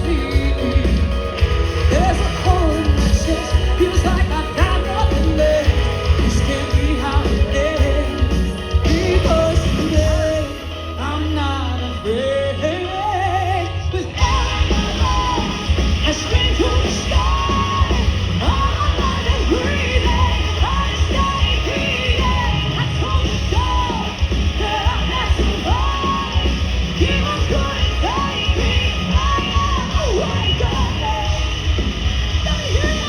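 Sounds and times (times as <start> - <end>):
hard rock band playing: 0.0 - 33.0.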